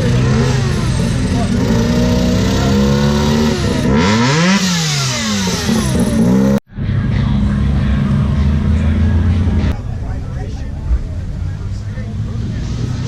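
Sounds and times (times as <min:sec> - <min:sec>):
car engine revving: 0:00.0 - 0:13.0
steady engine rumble: 0:00.0 - 0:13.0.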